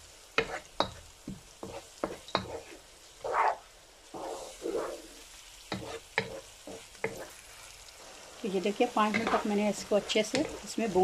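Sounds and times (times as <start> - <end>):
food sizzling in a pan: 0.0 - 11.0
wooden spatula scraping a pan: 0.4 - 11.0.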